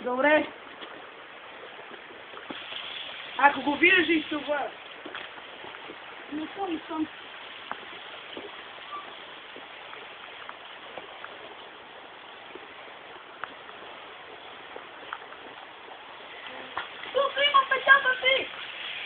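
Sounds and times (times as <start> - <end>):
water rushing over stones: 0.0 - 19.0.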